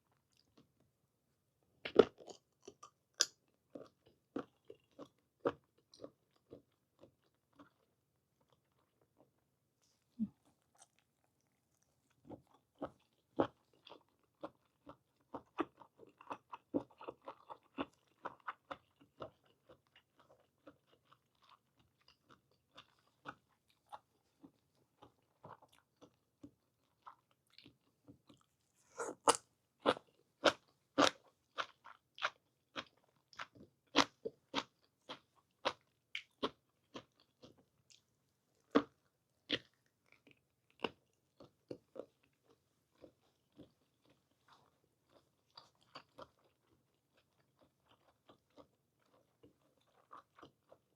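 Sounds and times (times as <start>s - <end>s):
person chewing squid: 1.8s - 9.0s, 10.2s - 50.9s.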